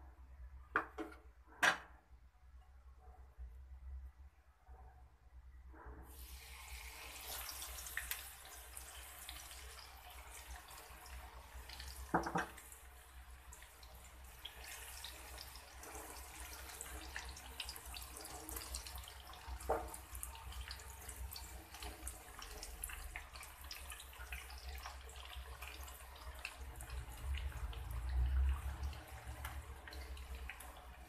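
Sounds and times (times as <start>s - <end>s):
oil sizzling and popping: 6.1s - 31.0s.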